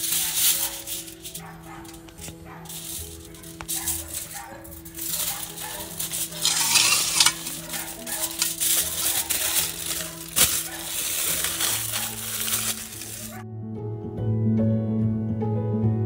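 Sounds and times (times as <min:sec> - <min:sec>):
aluminium foil crinkling: 0:00.0 - 0:13.4
soft background music: 0:00.0 - 0:16.0.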